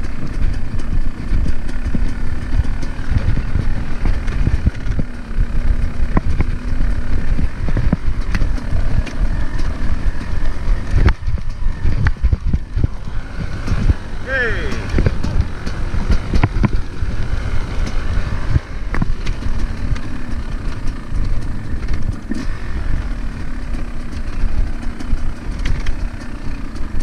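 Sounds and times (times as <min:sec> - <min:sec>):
dirt bike engine running: 0:00.0 - 0:27.0
wind rumble on microphone: 0:00.0 - 0:27.0.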